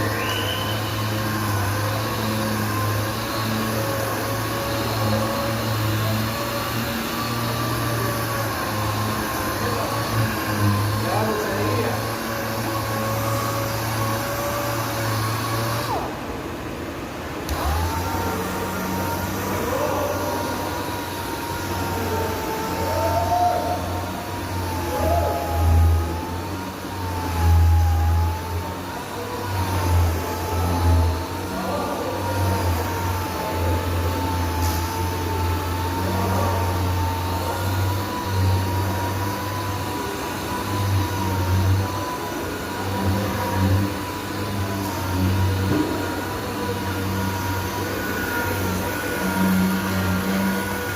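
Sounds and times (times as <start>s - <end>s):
power sander whining: 0.0s - 50.9s.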